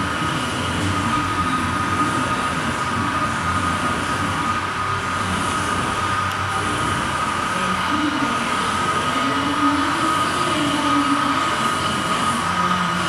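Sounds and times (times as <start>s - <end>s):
machinery running: 0.0s - 13.0s.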